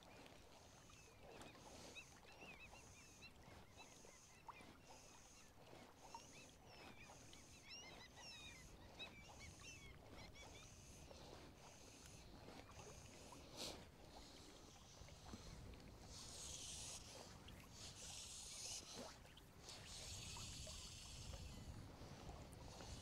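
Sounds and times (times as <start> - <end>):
water lapping: 0.0 - 23.0
small birds chirping: 0.9 - 15.5, 16.1 - 21.7.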